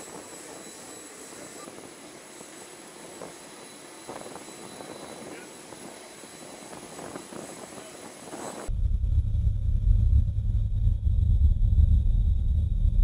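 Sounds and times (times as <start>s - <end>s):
aircraft takeoff rumble: 0.0s - 13.0s.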